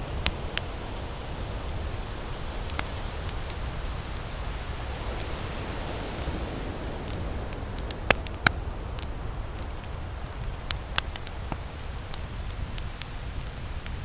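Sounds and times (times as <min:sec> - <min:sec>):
campfire crackling: 0:00.0 - 0:14.0
low steady rush: 0:00.0 - 0:14.0.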